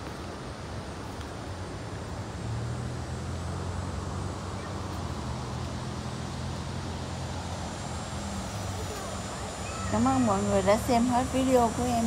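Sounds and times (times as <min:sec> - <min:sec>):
low engine hum: 0:00.0 - 0:12.0
outdoor background hiss: 0:00.0 - 0:12.0.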